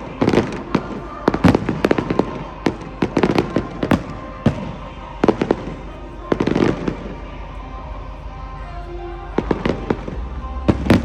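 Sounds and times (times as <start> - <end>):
fireworks bangs and crackles: 0.0 - 7.2, 9.4 - 11.0
music playing: 0.0 - 11.0.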